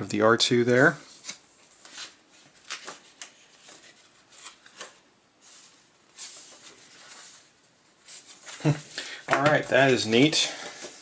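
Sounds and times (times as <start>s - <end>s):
paper rustling: 0.7s - 11.0s.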